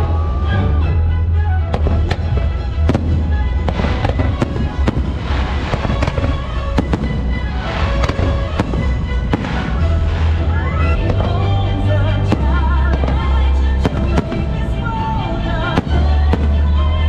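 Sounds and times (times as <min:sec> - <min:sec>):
fireworks cracking: 0:01.8 - 0:17.0.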